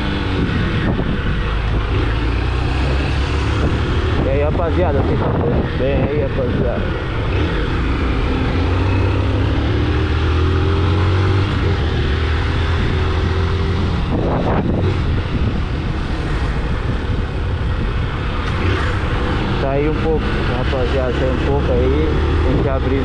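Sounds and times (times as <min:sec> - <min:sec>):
wind rush on microphone: 0:00.0 - 0:23.0.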